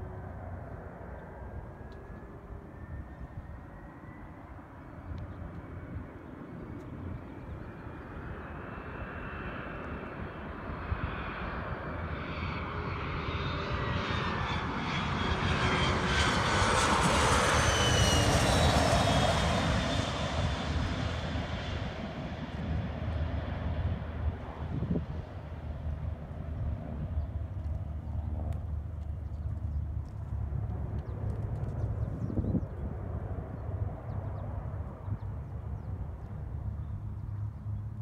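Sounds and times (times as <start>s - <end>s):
jet engines passing: 0.0s - 38.0s.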